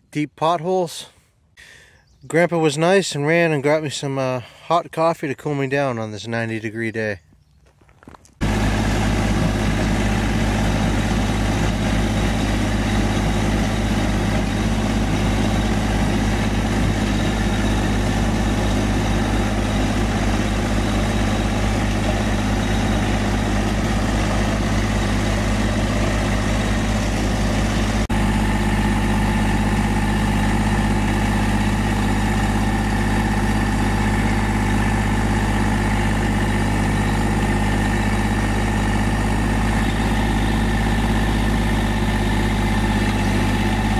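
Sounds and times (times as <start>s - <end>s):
tractor engine idling: 8.4s - 43.9s.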